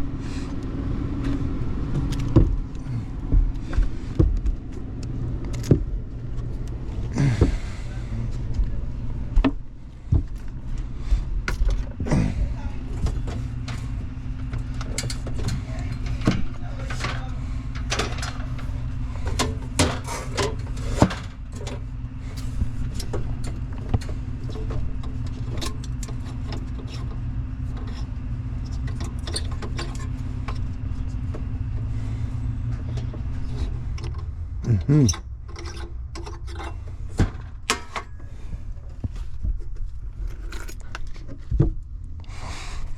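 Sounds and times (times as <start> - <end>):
hvac unit electrical hum: 0.0 - 42.9.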